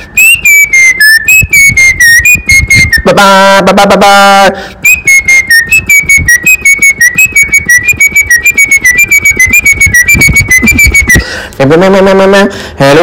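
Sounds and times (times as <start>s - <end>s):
quick whistled tune: 0.0s - 11.3s.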